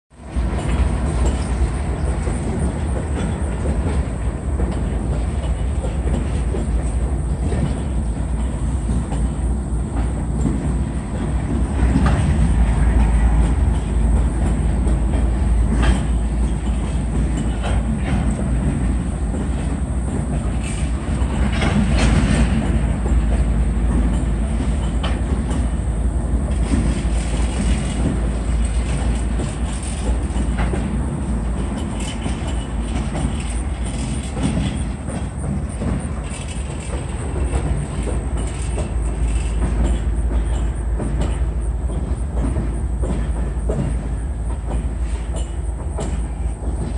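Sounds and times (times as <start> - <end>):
diesel locomotives rumbling past: 0.1 - 46.9
wheels clicking over rail joints: 0.2 - 46.9.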